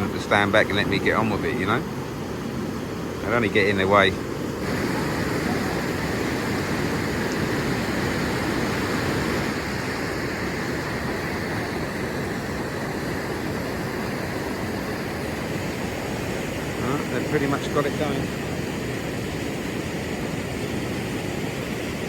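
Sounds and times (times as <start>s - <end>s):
river water rushing through rapids: 0.0s - 22.0s.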